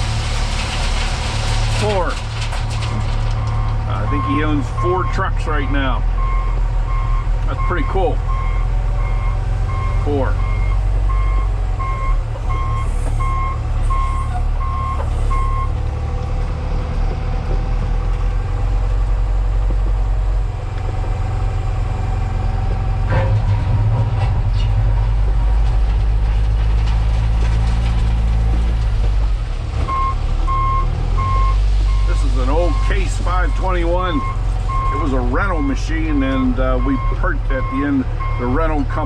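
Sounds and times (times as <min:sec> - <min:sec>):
diesel engine running under load: 0:00.0 - 0:39.0.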